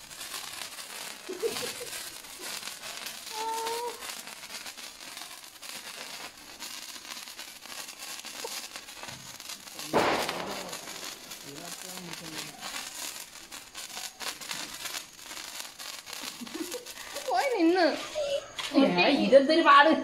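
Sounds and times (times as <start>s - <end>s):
sparkler fizzing and crackling: 0.0s - 20.0s.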